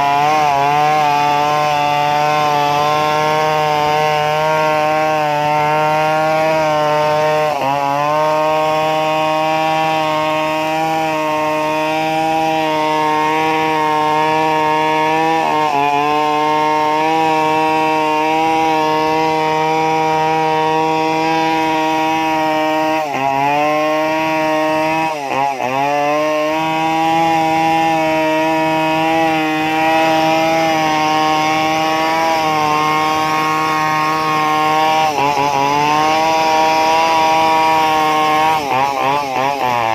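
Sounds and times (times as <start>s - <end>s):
chainsaw engine running at high speed: 0.0s - 39.9s.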